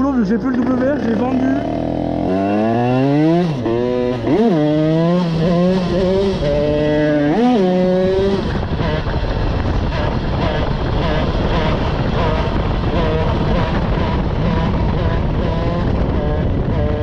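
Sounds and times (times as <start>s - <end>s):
two-stroke engine revving high: 0.0s - 17.0s
wind rush: 1.1s - 17.0s.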